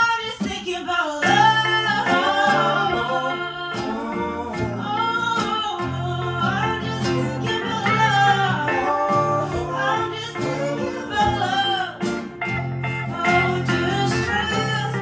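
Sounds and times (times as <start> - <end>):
folk-pop band playing: 0.0 - 15.0
person singing: 0.0 - 15.0.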